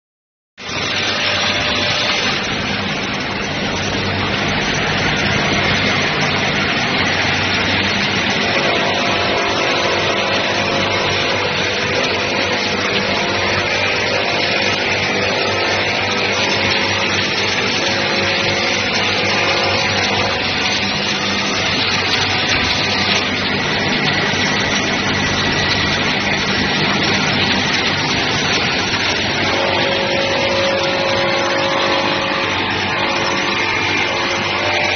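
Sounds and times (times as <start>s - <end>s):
low machine hum: 0.6s - 34.9s
production line machinery: 0.6s - 34.9s.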